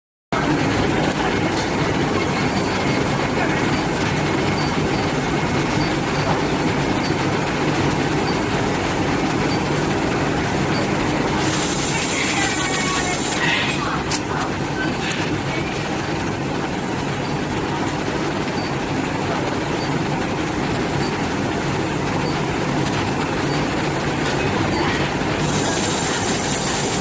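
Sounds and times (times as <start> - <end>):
brazing machine rumbling: 0.4 - 27.0.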